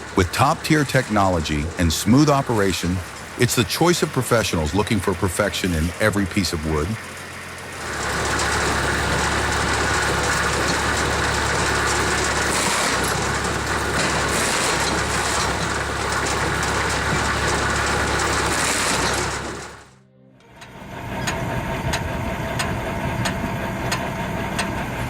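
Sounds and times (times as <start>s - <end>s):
wood-processing machinery droning: 0.0s - 25.0s.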